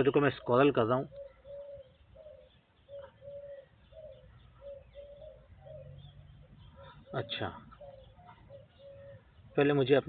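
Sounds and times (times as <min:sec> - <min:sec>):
faint high bird chirps: 0:00.0 - 0:10.0
low bird notes: 0:00.0 - 0:10.0.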